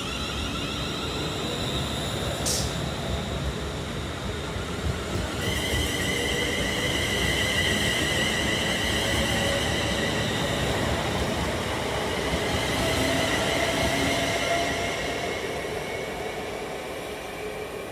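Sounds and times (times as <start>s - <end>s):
train wheels on rails: 0.0s - 16.6s.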